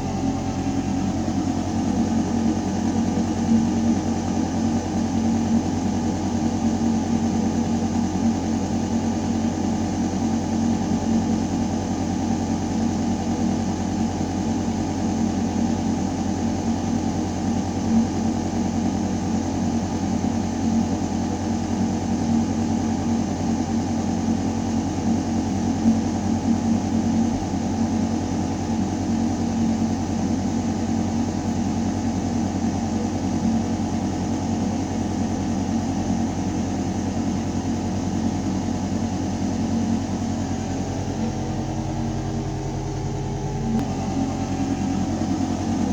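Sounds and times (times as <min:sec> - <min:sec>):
ventilation duct hum: 0:00.0 - 0:45.9.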